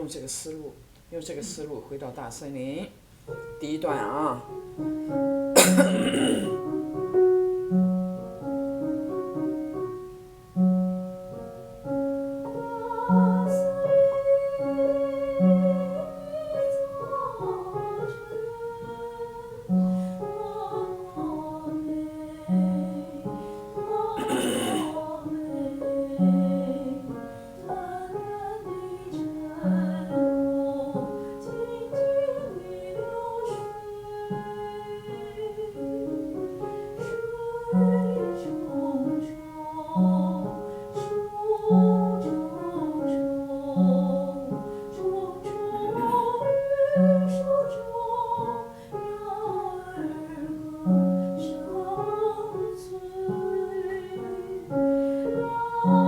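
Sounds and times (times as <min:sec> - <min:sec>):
piano accompaniment: 0:00.0 - 0:56.0
woman singing: 0:05.6 - 0:07.2, 0:11.4 - 0:56.0.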